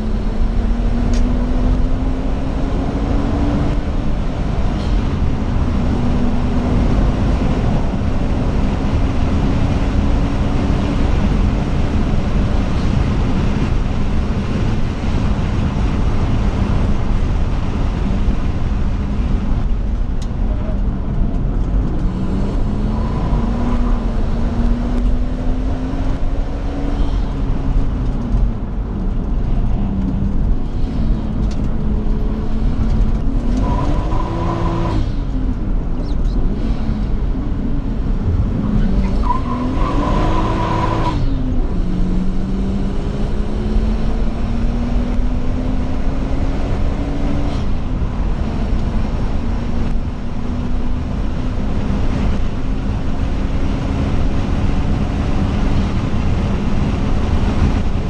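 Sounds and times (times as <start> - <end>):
car engine revving: 0.0 - 58.0
turbo whine and rush: 0.0 - 58.0.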